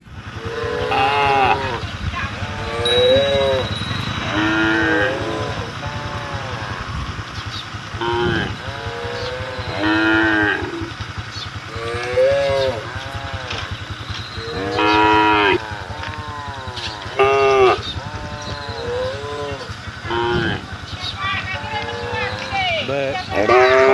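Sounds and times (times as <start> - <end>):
steady low rumble: 0.0 - 23.9
cattle mooing: 0.3 - 7.3, 7.9 - 23.9.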